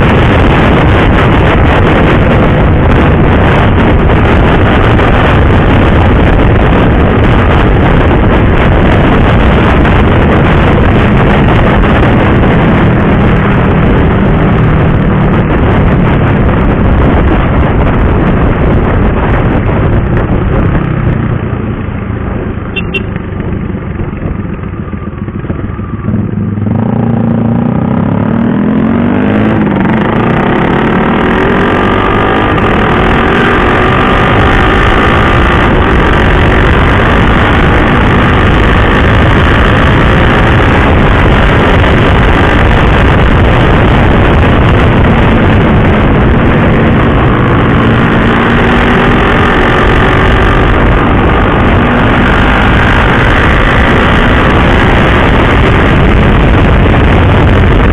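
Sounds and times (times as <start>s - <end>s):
motorcycle engine accelerating: 0.0s - 57.9s
steady rushing noise: 0.0s - 57.9s.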